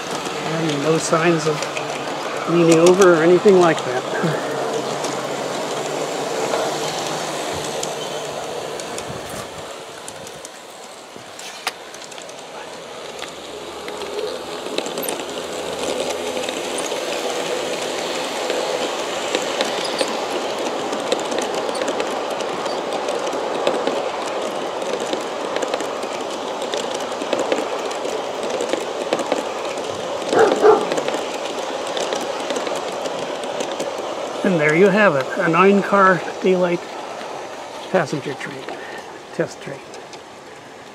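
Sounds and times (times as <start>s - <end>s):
model train wheels rumbling: 0.0s - 40.9s.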